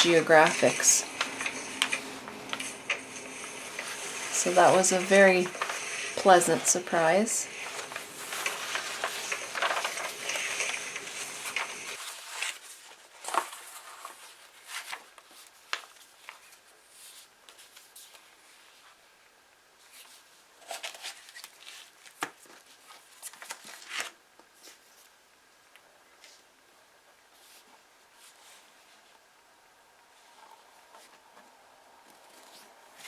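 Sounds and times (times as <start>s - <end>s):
book pages rustling: 0.0s - 19.0s, 19.8s - 25.1s, 30.2s - 33.0s.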